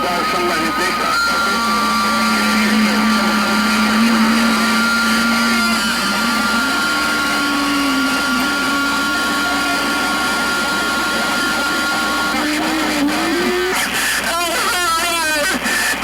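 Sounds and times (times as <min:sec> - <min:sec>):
steady high tones: 0:00.0 - 0:14.0
motor drone and whine: 0:00.0 - 0:16.0.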